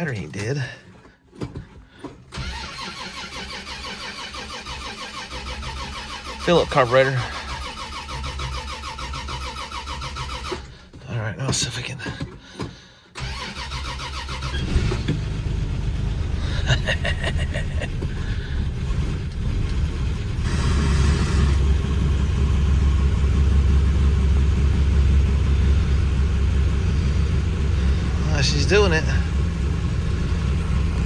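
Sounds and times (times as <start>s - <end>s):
starter cranking: 0.1s - 31.0s
car engine running: 2.4s - 12.4s, 13.2s - 31.0s.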